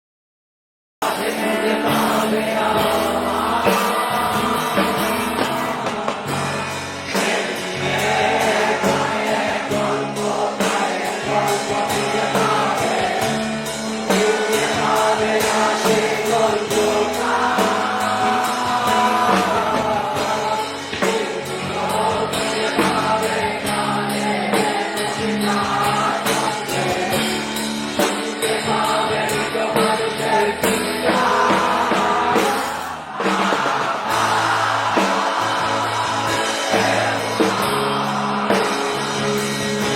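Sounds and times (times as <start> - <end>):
song with sung vocals and beat: 1.0 - 39.9.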